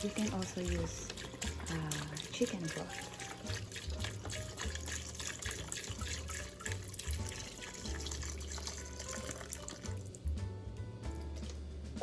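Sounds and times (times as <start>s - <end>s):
broth pouring into pot: 0.0s - 10.3s.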